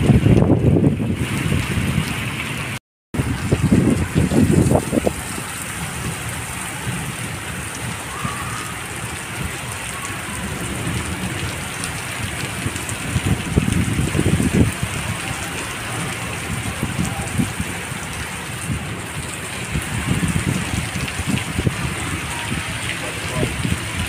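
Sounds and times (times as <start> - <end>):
heavy rain pouring on pavement: 0.0 - 24.0.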